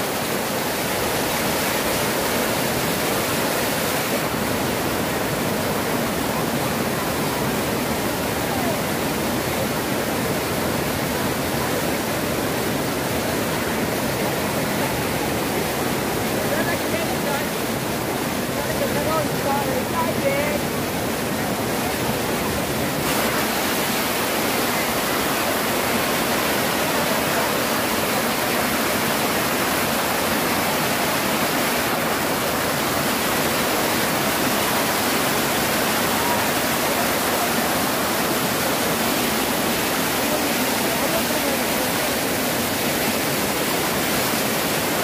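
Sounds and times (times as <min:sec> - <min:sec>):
water rushing over stone spillway: 0:00.0 - 0:45.0.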